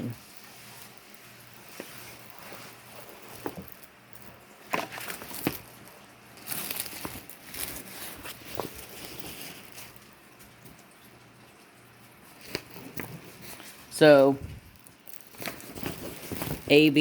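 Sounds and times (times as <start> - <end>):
plastic bags crinkling: 0.0 - 11.3, 12.1 - 17.0.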